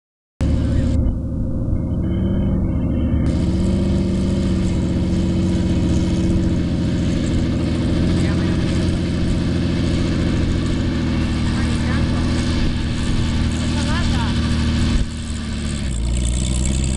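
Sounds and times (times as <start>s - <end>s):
helicopter piston engine running: 0.4s - 16.9s.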